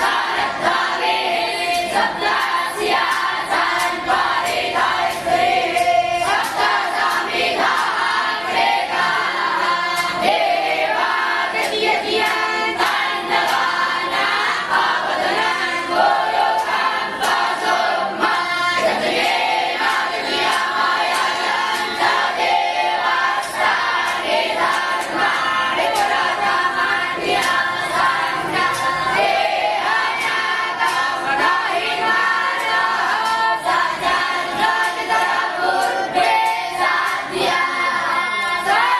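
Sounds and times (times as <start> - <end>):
boys singing in chorus: 0.0 - 38.9.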